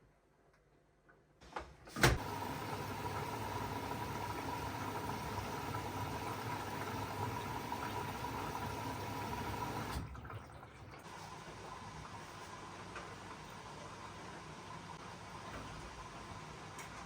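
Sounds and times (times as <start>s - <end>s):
running water rushing: 2.2s - 16.7s.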